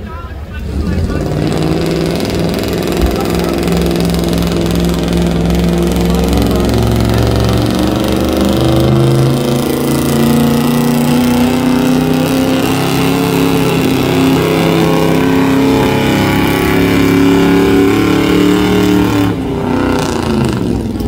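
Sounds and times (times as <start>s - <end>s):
engine running at high revs: 0.4s - 21.0s.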